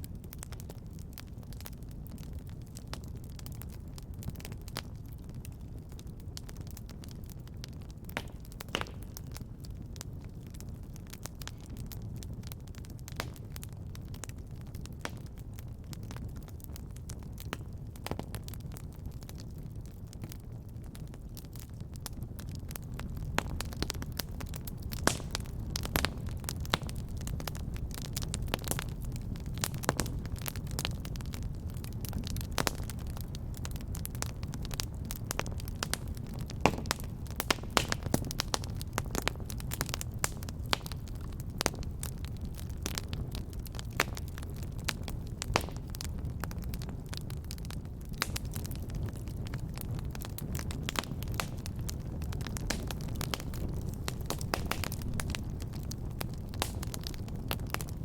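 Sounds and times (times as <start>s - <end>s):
fire crackling: 0.0s - 58.0s
flames rumbling: 0.0s - 58.0s.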